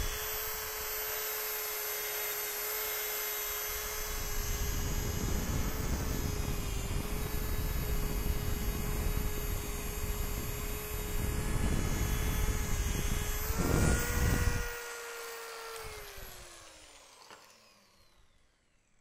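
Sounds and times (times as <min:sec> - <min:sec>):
belt sander on metal tube: 0:00.0 - 0:18.0.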